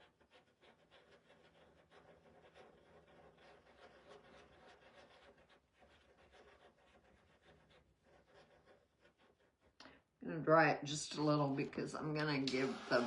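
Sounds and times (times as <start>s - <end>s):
brush strokes on surface: 0.0s - 9.8s, 11.2s - 13.0s.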